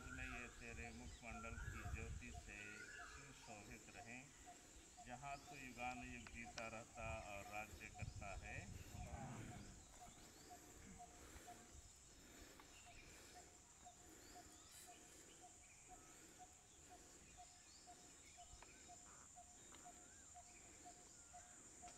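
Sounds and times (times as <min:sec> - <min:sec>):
bird chirps: 0:00.0 - 0:21.9.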